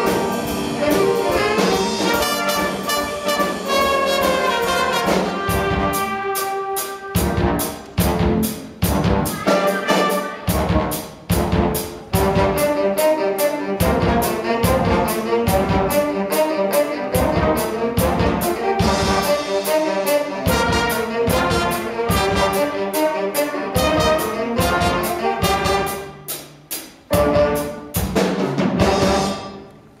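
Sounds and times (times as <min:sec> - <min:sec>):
jazz band playing: 0:00.0 - 0:30.0.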